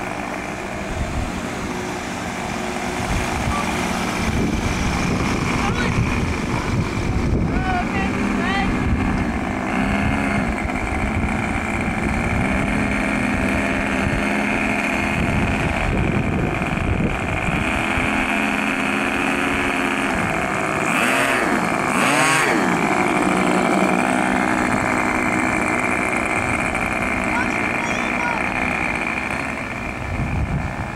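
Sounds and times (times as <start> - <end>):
model airplane engines running: 0.0 - 30.9.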